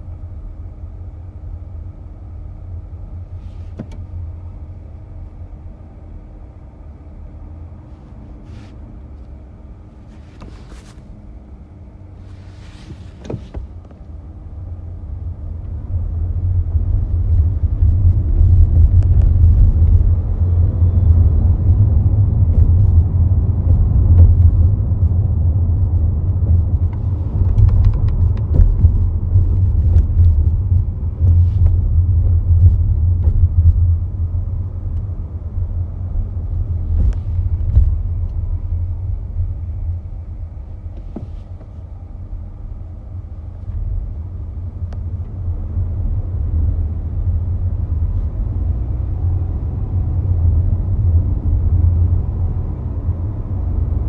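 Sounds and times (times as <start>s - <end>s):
car cabin rumble: 0.0s - 54.0s.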